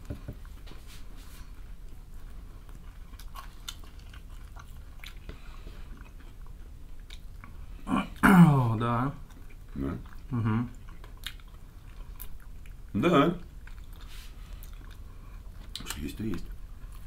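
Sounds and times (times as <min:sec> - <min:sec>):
people chewing crispy chicken: 0:01.3 - 0:17.0.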